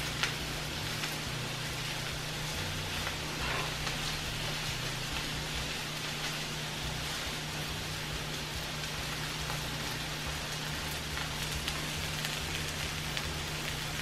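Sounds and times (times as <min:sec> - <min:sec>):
food sizzling in frying pans: 0:00.0 - 0:14.0
steady low hum: 0:00.0 - 0:14.0.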